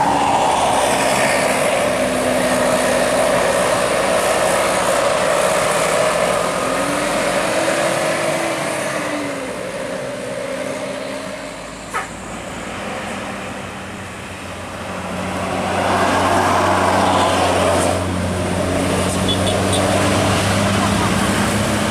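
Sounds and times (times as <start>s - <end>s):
heavy vehicle passing: 0.0s - 21.9s
road traffic engine hum: 0.0s - 21.9s.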